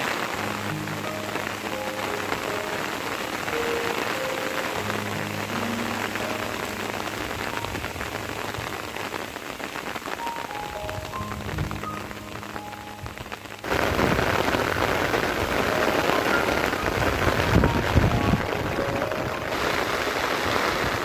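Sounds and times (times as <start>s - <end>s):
steady rain falling: 0.0s - 21.0s
soft background music: 0.2s - 21.0s.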